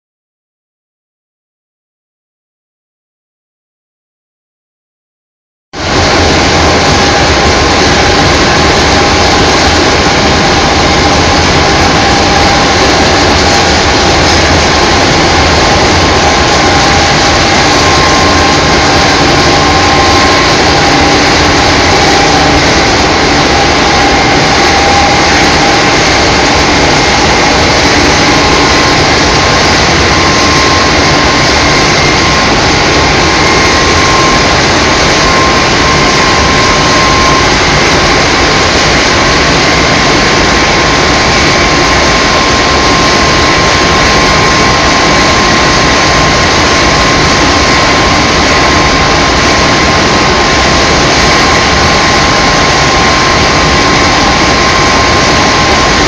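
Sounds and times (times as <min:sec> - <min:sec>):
faint machine whining: 0:05.8 - 0:56.0
machine running loudly: 0:05.8 - 0:56.0.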